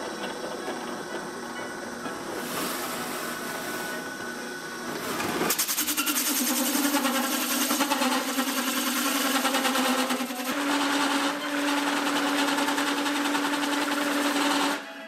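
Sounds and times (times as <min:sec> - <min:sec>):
drill press motor hum: 0:00.0 - 0:15.0.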